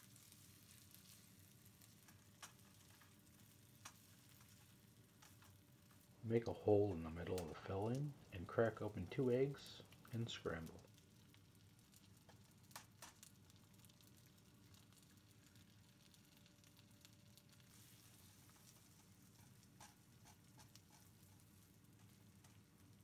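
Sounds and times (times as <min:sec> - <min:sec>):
eggs crackling in a skillet: 0:00.0 - 0:23.0
frying pops: 0:00.0 - 0:23.0.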